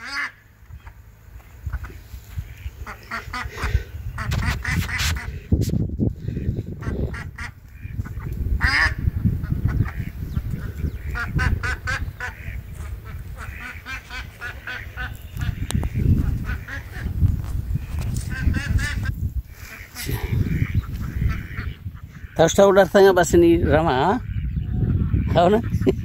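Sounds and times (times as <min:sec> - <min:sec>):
ducks quacking: 0:00.0 - 0:05.5, 0:06.2 - 0:26.0
wind buffeting microphone: 0:00.7 - 0:26.0.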